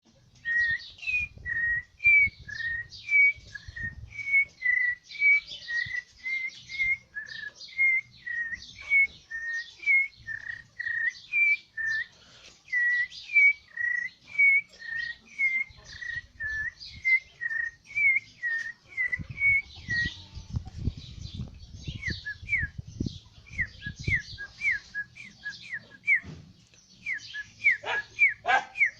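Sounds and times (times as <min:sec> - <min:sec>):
person whistling bird call: 0:00.4 - 0:20.1, 0:23.5 - 0:26.4, 0:27.0 - 0:28.9.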